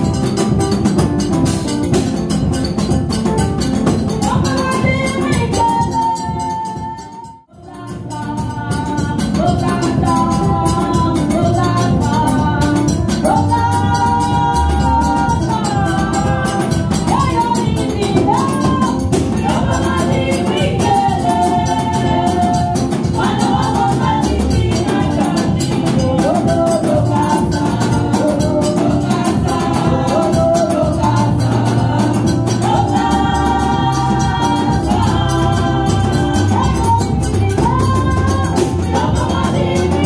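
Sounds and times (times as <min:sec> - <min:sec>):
amplified band with danceable beat: 0:00.0 - 0:40.0
women's group singing gospel: 0:04.2 - 0:40.0.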